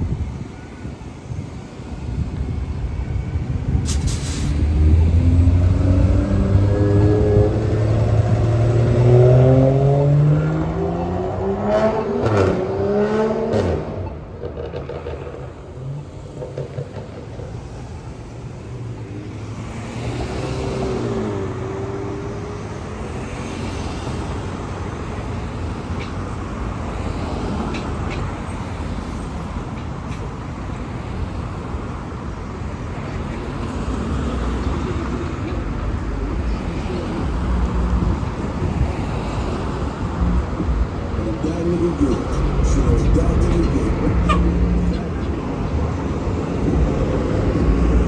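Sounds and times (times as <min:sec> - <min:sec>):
passing vehicles: 0:00.0 - 0:48.0.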